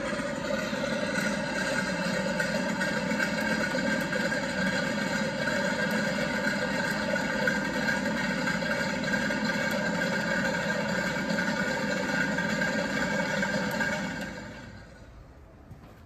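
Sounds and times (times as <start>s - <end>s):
recorded aircraft engine idling: 0.0s - 16.0s.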